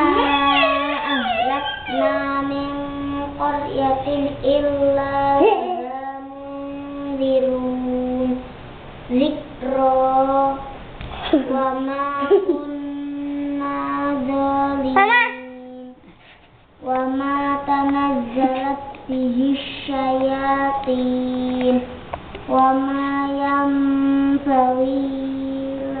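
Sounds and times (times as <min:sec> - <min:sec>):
child chanting melodic recitation: 0:00.0 - 0:16.1, 0:16.8 - 0:26.0.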